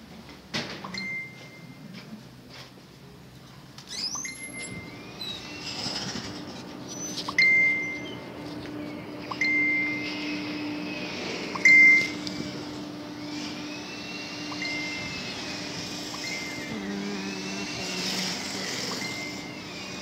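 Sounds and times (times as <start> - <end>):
steady low hum: 3.0 - 20.0.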